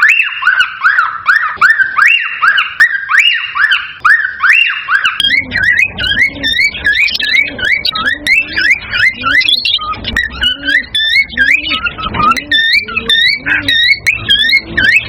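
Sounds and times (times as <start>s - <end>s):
cockatiel whistling: 0.0s - 15.0s.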